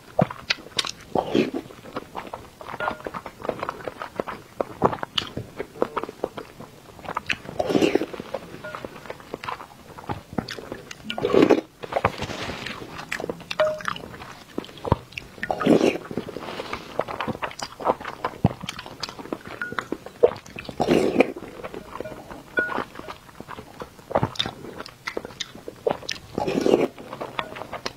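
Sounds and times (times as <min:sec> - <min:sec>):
eggs being bitten and chewed: 0:00.0 - 0:27.9.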